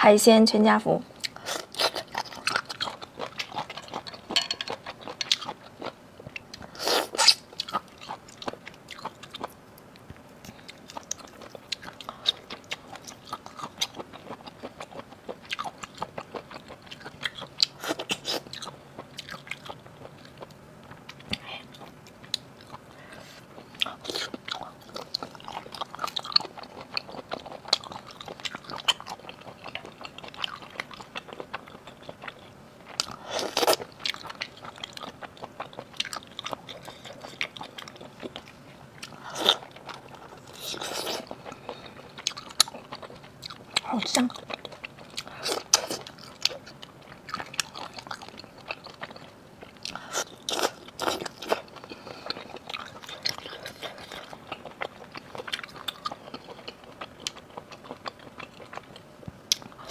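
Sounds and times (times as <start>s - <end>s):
crunching and wet chewing: 1.2s - 59.9s.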